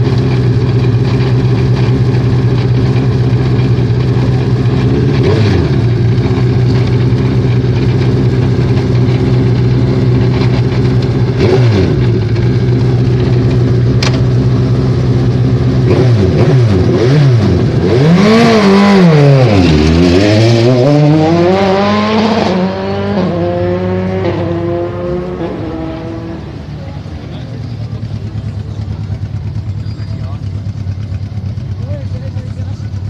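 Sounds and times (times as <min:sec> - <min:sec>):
race car engine revving: 0:00.6 - 0:14.2, 0:14.9 - 0:28.0.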